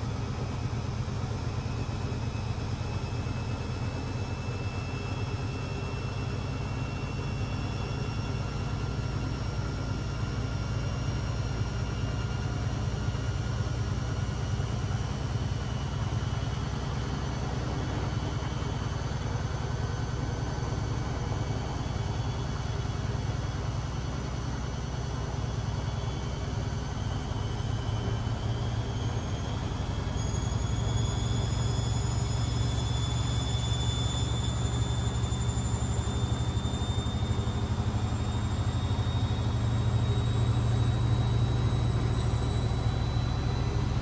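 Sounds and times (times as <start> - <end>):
washing machine running: 0.0 - 44.0.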